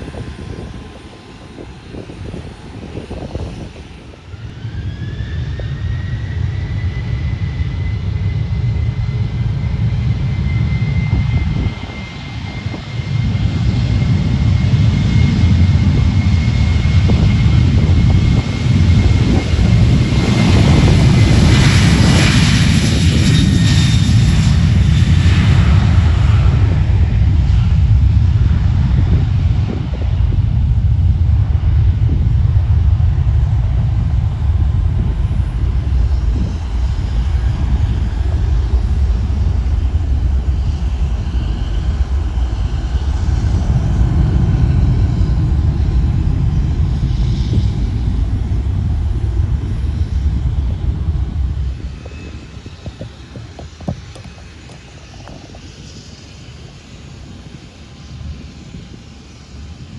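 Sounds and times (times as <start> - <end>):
airliner engine rumble: 0.0 - 59.9.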